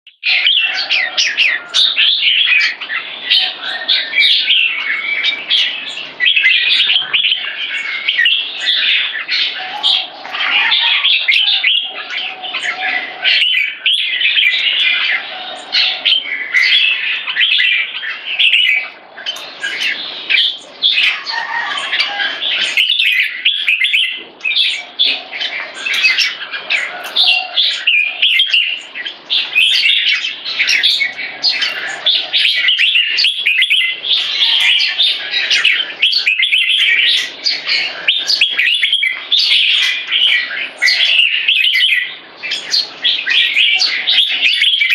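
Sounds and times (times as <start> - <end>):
bird singing and chattering: 0.0 - 44.9.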